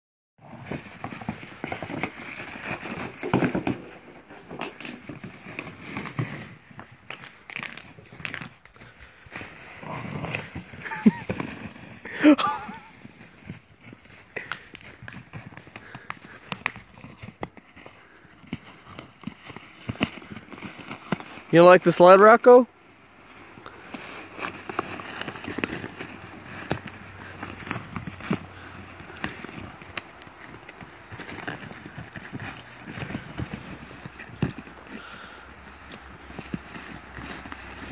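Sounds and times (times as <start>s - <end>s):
plastic sled scraping over snow: 0.4s - 37.9s
snow crunching: 0.6s - 37.9s.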